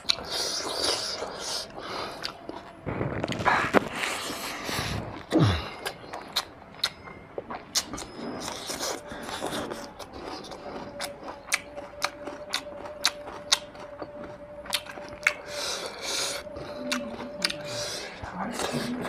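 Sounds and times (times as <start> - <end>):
chewing and lip-smacking: 0.0 - 19.0
faint steady hum: 0.0 - 19.0.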